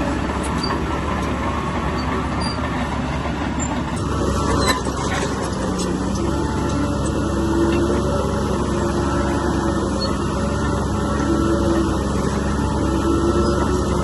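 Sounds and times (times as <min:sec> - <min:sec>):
diesel engine rumble: 0:00.0 - 0:14.0.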